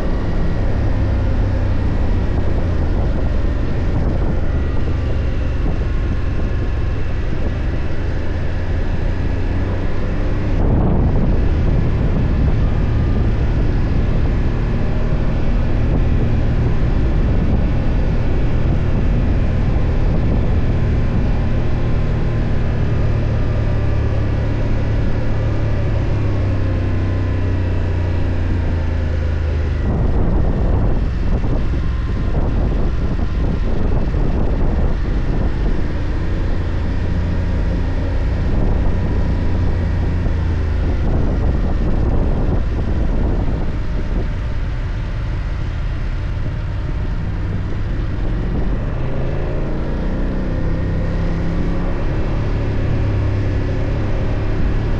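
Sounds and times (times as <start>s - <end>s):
gusty wind noise: 0.0s - 54.9s
motorcycle engine running: 0.0s - 54.9s.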